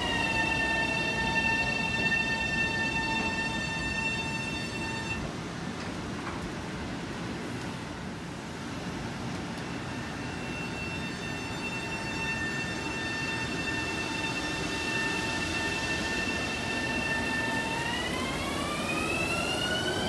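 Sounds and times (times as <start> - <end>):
steady high whine: 0.0 - 5.4, 9.1 - 20.0
train wheels rumbling on track: 0.0 - 20.0.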